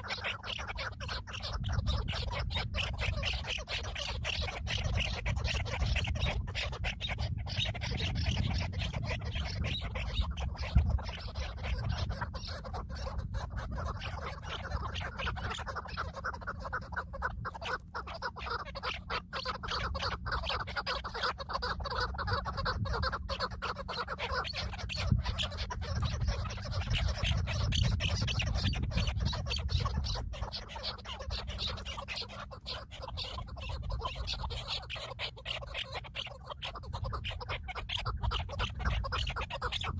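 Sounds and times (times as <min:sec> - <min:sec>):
harsh bird calls: 0:00.0 - 0:39.9.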